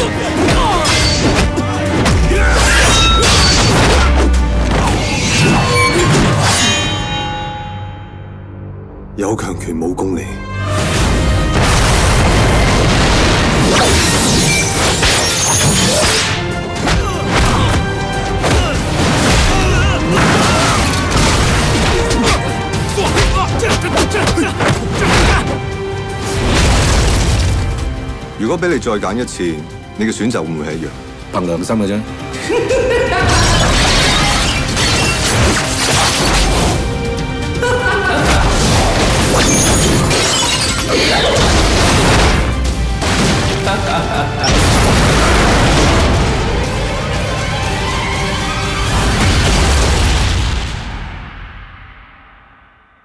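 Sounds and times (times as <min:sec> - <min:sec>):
action film music: 0:00.0 - 0:53.0.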